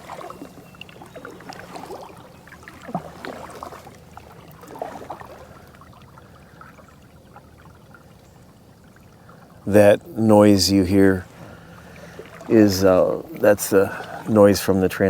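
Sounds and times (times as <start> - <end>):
water splashing and gurgling: 0.0 - 15.0.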